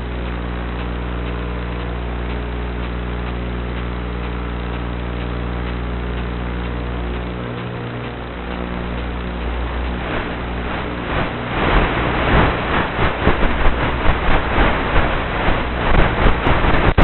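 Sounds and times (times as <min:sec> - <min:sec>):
steady buzzing hum: 0:00.0 - 0:17.0.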